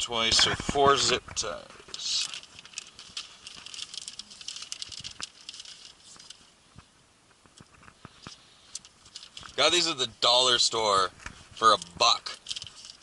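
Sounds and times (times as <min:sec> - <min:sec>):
plastic zip ties clicking and rustling: 0:00.2 - 0:06.5, 0:07.4 - 0:10.0, 0:10.9 - 0:13.0.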